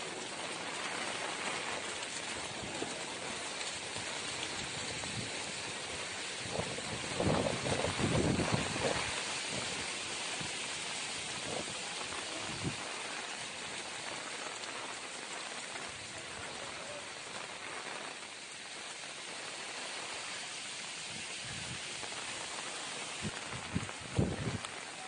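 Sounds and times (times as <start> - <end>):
rain falling on wet ground: 0.0 - 25.0.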